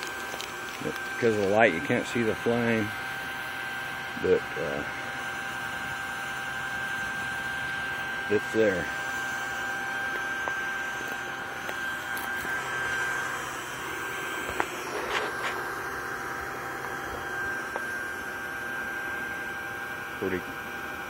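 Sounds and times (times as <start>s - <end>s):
electric blower motor whining: 0.0s - 21.0s.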